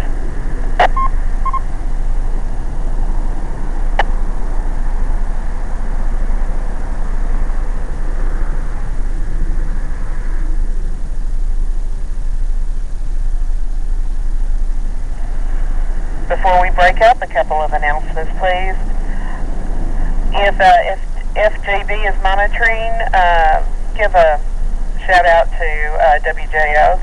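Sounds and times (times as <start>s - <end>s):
car idling inside cabin: 0.0s - 27.0s.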